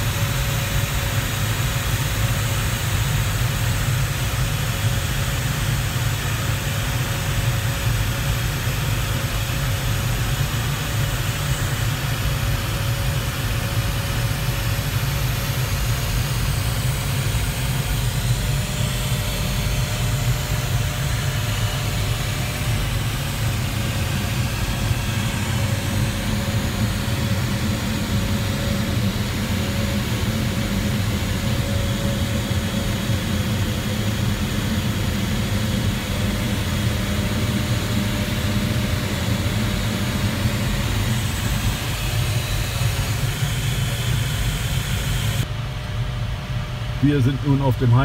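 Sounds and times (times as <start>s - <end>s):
air rushing around glider cockpit: 0.0s - 47.6s.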